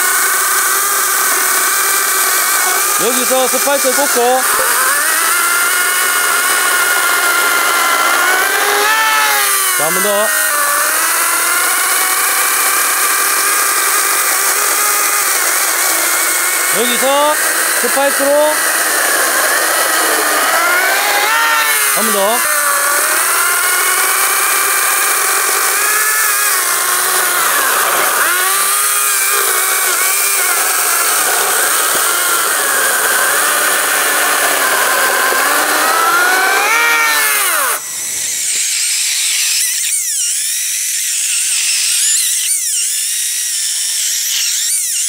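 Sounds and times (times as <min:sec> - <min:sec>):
chainsaw cutting log: 0:00.0 - 0:45.0.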